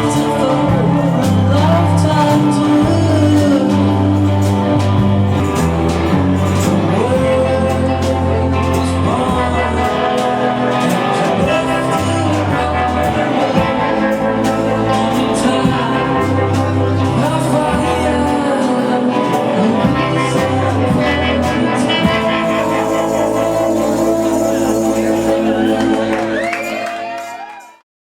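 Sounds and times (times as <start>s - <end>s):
song with singing bass and drums: 0.0s - 27.5s.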